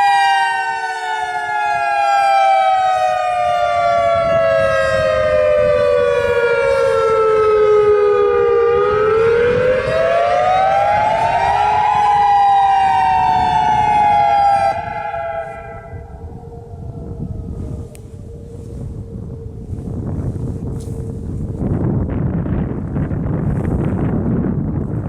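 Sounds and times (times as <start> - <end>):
electronic warning siren wailing: 0.0 - 23.7.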